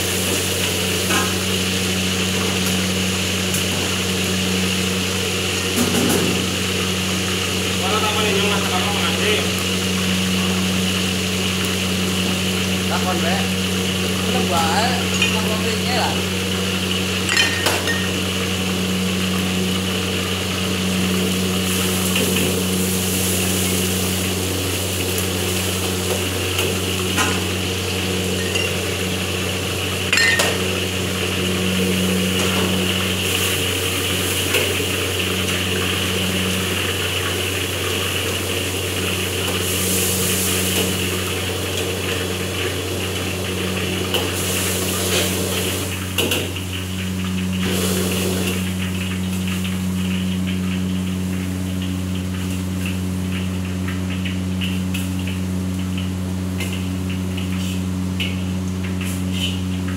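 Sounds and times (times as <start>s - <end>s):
gas burner hum and hiss: 0.0s - 59.9s.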